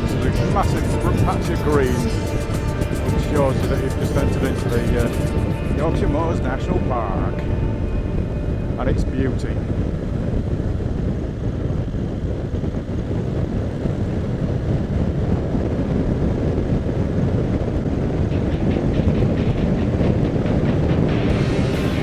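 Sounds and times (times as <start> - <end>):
motorcycle riding with wind rush: 0.0 - 22.0.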